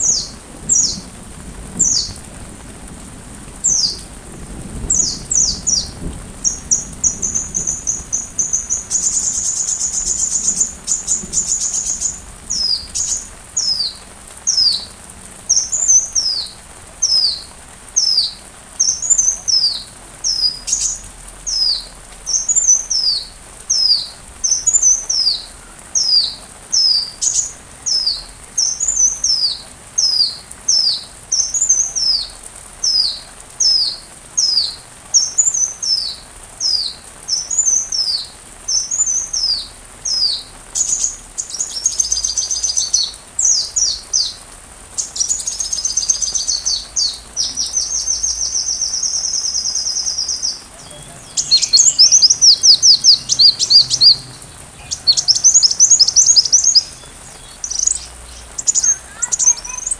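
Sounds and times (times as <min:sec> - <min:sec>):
sunbird song: 0:00.0 - 0:01.1, 0:03.6 - 0:04.0, 0:04.8 - 0:44.4, 0:45.0 - 0:59.9.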